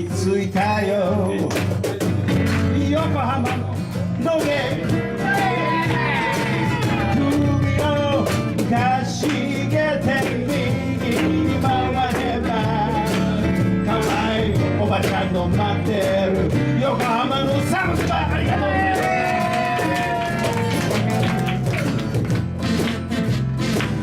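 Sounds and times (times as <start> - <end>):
live band playing blues: 0.0 - 24.0.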